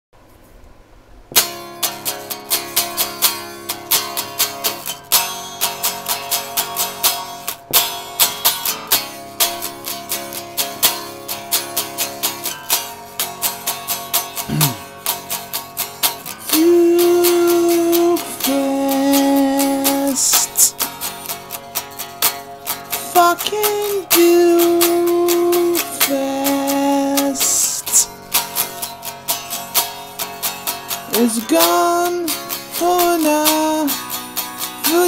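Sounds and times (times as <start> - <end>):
electric guitar strumming chords: 1.3 - 35.0.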